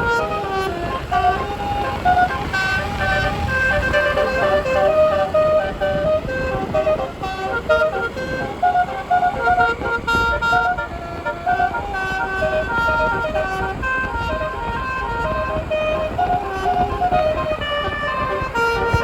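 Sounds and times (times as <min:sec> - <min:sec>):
bus air horns playing a tune: 0:00.0 - 0:19.0
steady low noise: 0:00.0 - 0:19.0.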